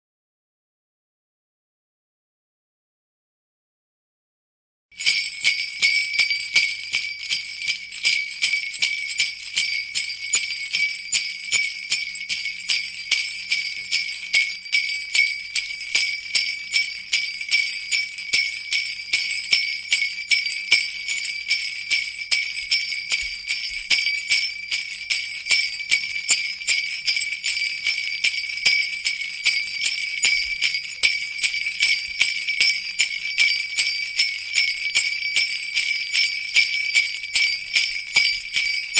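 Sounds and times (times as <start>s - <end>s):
sleigh bells jingling: 4.9s - 38.9s.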